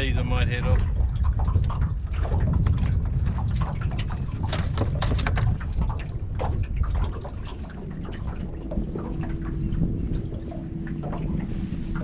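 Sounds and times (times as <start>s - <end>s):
sharp ticks and drips: 0.0s - 12.0s
water lapping: 0.0s - 12.0s
wind rumbling on microphone: 0.0s - 12.0s.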